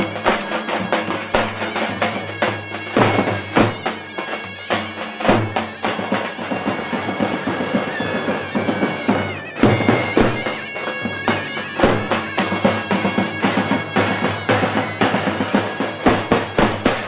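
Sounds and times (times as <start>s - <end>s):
reedy shawm folk melody: 0.0s - 17.0s.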